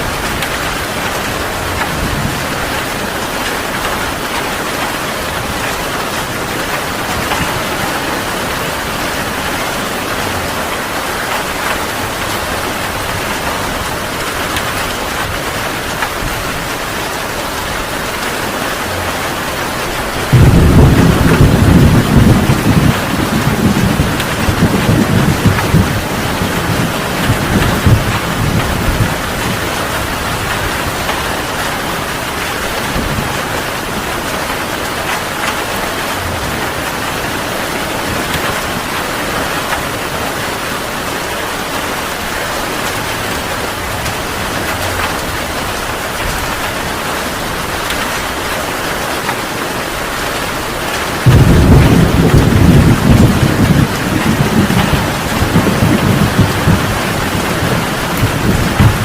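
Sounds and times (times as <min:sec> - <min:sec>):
thunder clap and rumble: 0:00.0 - 0:49.3, 0:50.3 - 0:59.0
heavy rain falling: 0:00.0 - 0:59.0.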